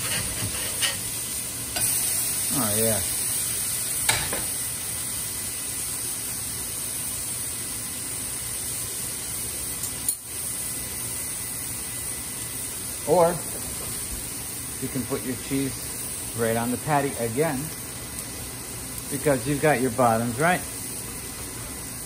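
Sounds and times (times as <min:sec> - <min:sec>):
meat patties sizzling on a griddle: 0:00.0 - 0:22.0.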